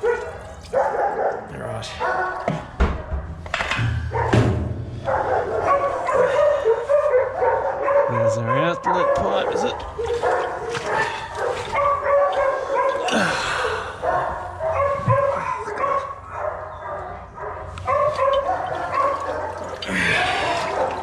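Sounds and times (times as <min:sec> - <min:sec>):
many dogs barking and yelping: 0:00.0 - 0:02.5, 0:05.0 - 0:21.0.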